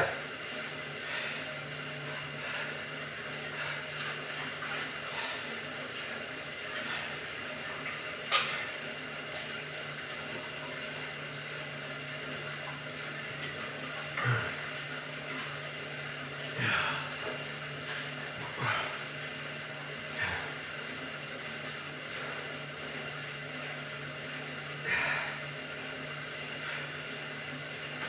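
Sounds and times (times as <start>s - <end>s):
exercise bike flywheel whirring: 0.0s - 28.0s.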